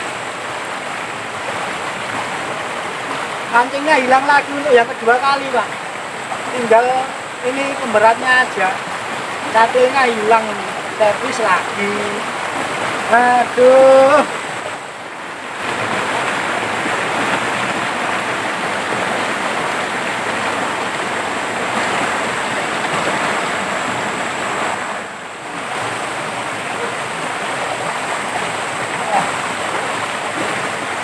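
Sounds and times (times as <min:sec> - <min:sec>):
river rushing over rocks: 0:00.0 - 0:31.0.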